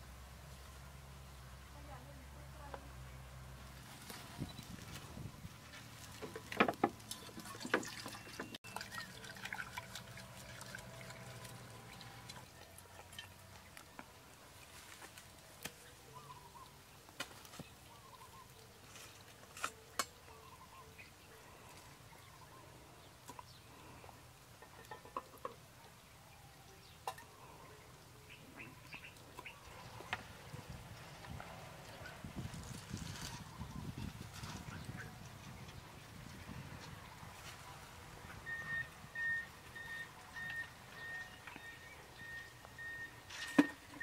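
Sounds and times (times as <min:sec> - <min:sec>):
faint outdoor background: 0:00.0 - 0:44.0.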